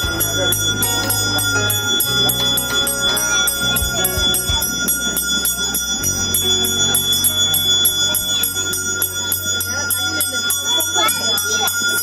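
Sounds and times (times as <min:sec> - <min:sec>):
bell rung rapidly: 0:00.0 - 0:12.0.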